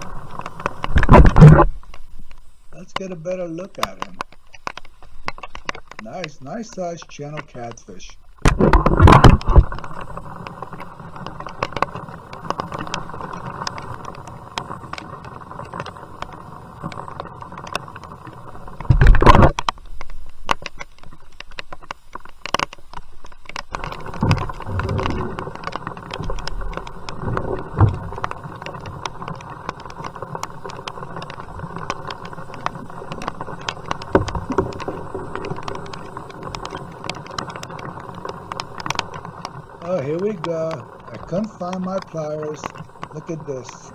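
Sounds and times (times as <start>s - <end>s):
rain pattering on plastic: 0.0s - 43.9s.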